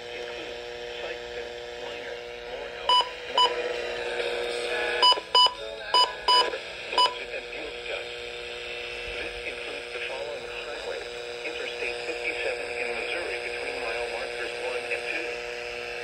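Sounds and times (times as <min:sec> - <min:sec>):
faint radio audio: 0:00.0 - 0:16.0.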